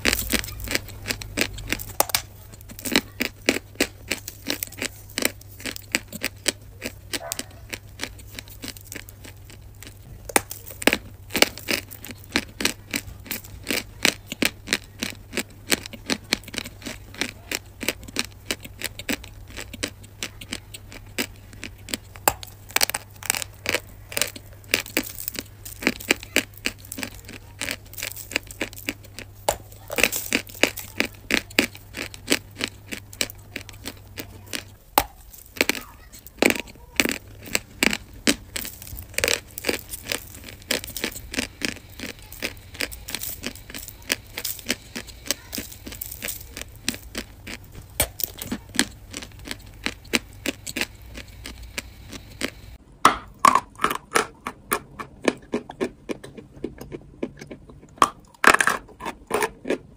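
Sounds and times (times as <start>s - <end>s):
chalk crunching while chewed: 0.0s - 59.9s.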